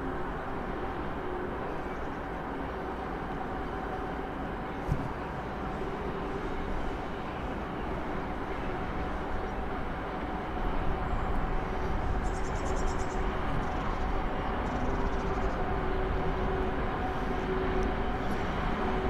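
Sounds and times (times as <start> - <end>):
train running past: 0.0 - 19.0.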